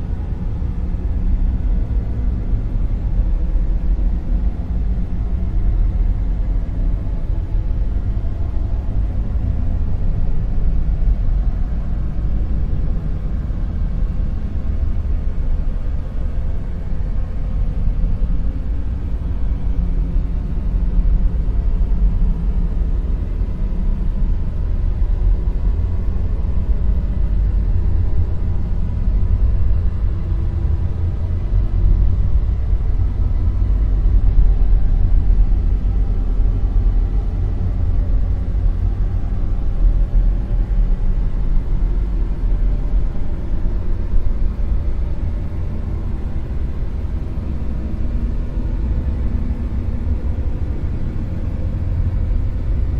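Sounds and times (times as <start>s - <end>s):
deep rumbling noise: 0.0s - 52.9s.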